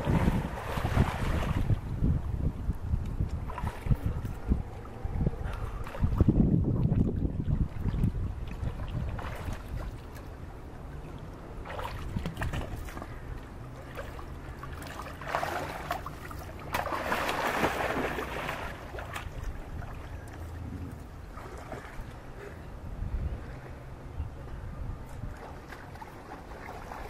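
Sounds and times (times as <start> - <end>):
water splashing: 0.0 - 2.0, 3.3 - 22.6, 25.1 - 27.0
wind rumble on microphone: 0.0 - 27.0.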